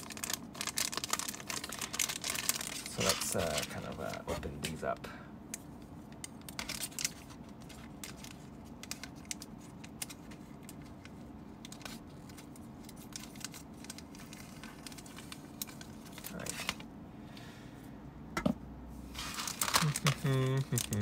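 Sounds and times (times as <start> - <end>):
plastic bag crinkling: 0.0 - 4.8, 6.4 - 16.8, 19.1 - 21.0
faint steady hum: 0.0 - 21.0.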